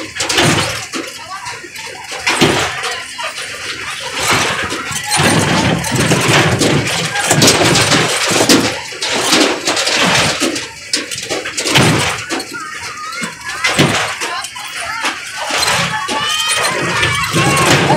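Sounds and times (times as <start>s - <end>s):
fair ride rumbling: 0.0s - 17.9s.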